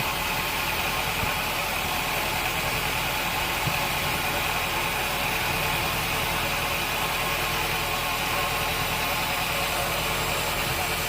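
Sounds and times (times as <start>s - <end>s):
sawmill machinery drone: 0.0s - 11.0s.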